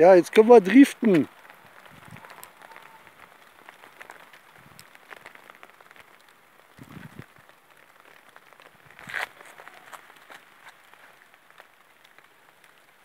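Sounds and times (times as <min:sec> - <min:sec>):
rustle: 0:00.0 - 0:13.0
snow and ice pellets pattering: 0:00.0 - 0:13.0.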